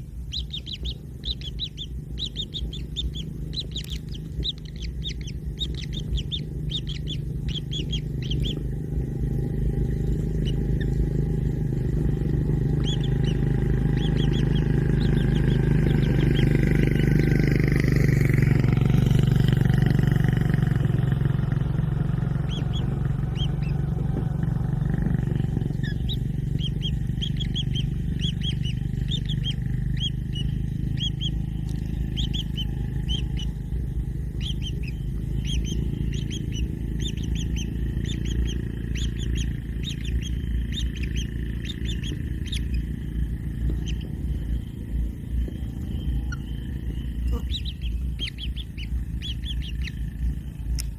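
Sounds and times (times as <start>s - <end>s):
quick bird chirps: 0.0s - 50.9s
steady low rumble: 0.0s - 50.9s.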